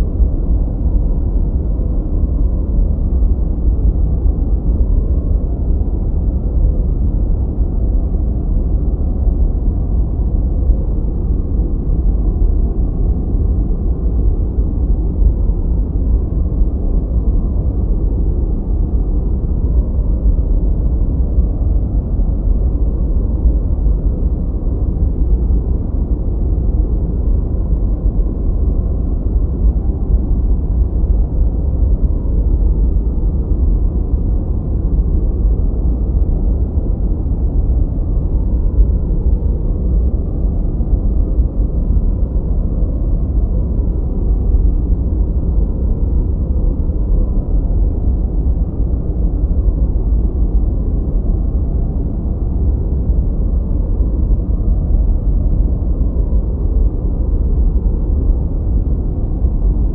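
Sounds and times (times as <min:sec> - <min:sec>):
deep low rumbling noise: 0:00.0 - 0:59.9.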